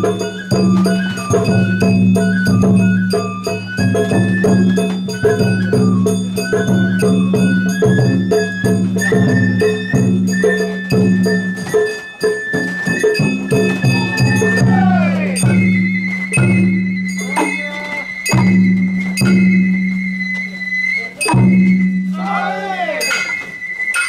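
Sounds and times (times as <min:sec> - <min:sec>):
drum strikes: 0:00.0 - 0:19.9, 0:21.2 - 0:23.6
bamboo flute melody: 0:00.0 - 0:24.0
small bells or rattles: 0:00.0 - 0:24.0.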